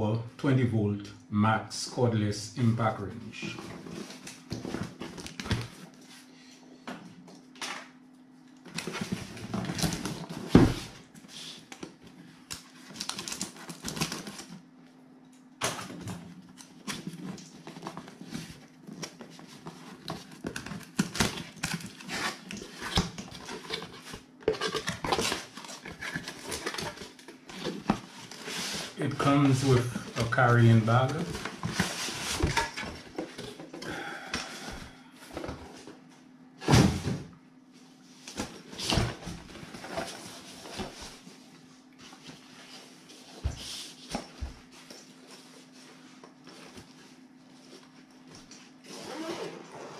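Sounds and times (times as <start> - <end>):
steady low hum: 0.0 - 48.7.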